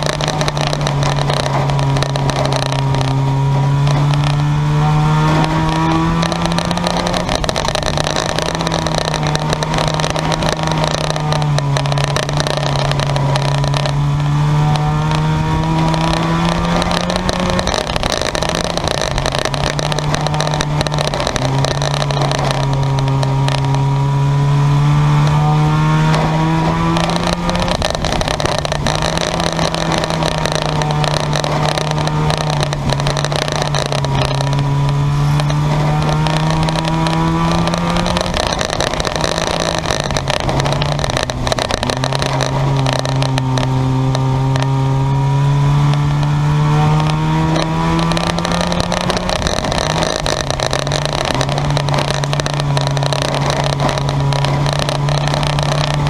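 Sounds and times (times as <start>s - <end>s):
race car engines accelerating: 0.0s - 56.0s.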